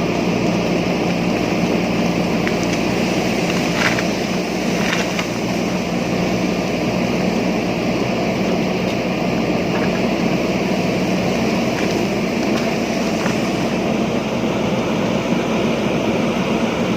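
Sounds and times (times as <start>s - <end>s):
diesel engine running under load: 0.0s - 16.9s.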